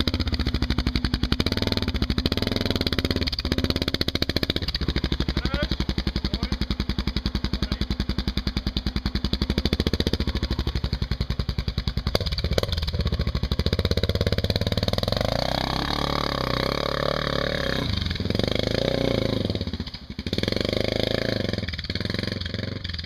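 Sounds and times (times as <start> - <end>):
motorcycle engine thumping and revving: 0.0 - 23.0.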